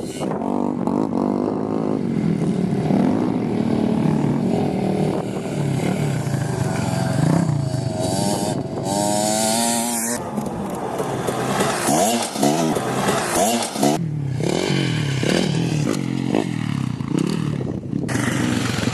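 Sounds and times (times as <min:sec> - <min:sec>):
motorcycle engines revving: 0:00.0 - 0:18.9.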